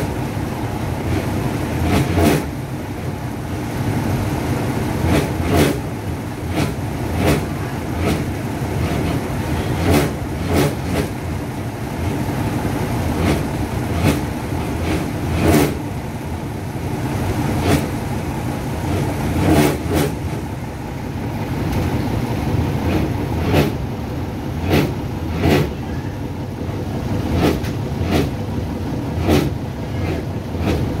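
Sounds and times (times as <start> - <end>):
diesel train rumbling: 0.0 - 31.0
wheels clacking over rail joints: 0.0 - 31.0.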